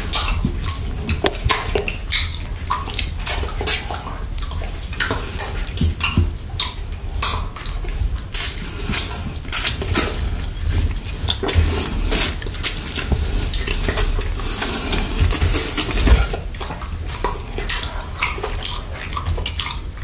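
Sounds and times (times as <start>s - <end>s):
wet mouth licking and sucking: 0.1s - 19.8s
sharp mouth clicks and smacks: 0.1s - 20.0s.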